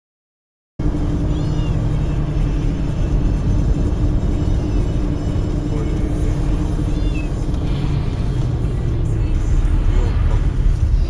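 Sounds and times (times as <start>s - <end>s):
car road and engine rumble: 0.8s - 11.0s.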